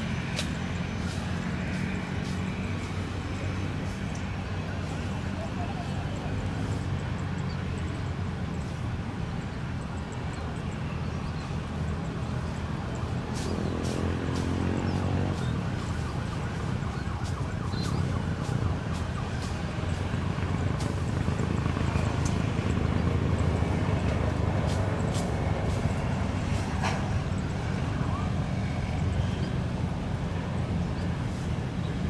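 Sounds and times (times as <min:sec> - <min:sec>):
jet engines and cabin drone: 0:00.0 - 0:32.0.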